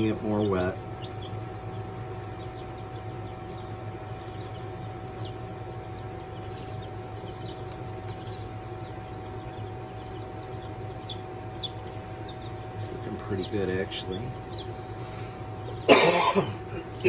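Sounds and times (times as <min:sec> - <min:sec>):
chicks peeping: 0:00.0 - 0:17.0
steady hum: 0:00.0 - 0:17.0.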